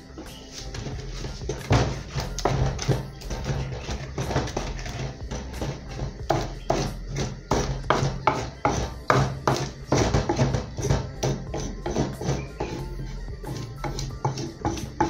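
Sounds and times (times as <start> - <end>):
wooden pestle grinding paste: 0.0 - 15.0.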